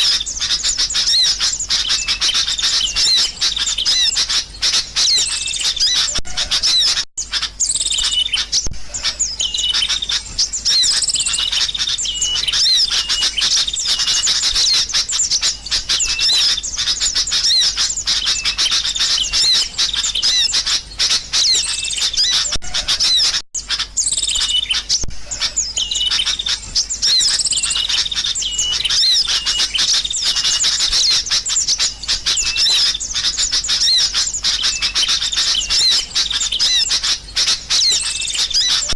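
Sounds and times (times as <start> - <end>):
birds chirping and whistling: 0.0 - 38.9.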